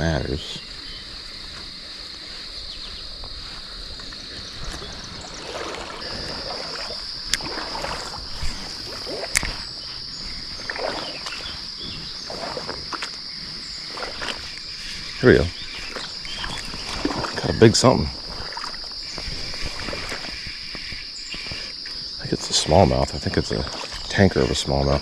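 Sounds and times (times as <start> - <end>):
creek water splashing: 0.0 - 25.0
insects trilling: 0.0 - 25.0.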